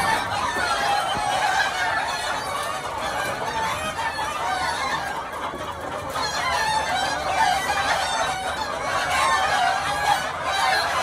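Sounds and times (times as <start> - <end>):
chickens clucking: 0.0 - 11.0
roosters crowing: 0.0 - 11.0.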